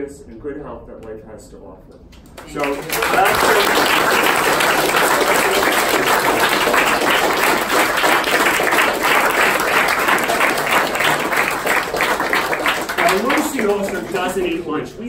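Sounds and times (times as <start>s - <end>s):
audience applauding: 2.3s - 14.7s.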